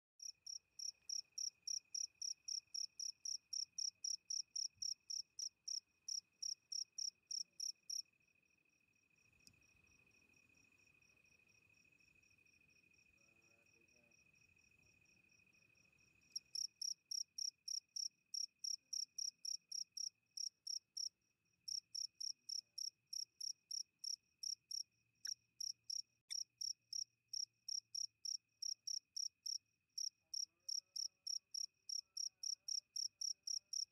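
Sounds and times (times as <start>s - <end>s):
insect chirping: 0.2s - 33.9s.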